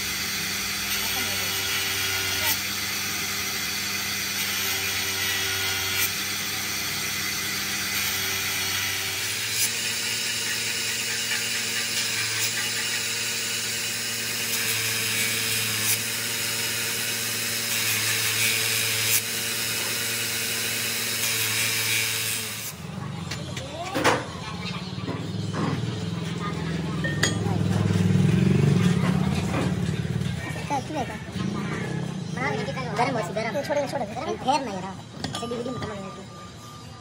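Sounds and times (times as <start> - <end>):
bench grinder grinding steel: 0.0 - 37.0.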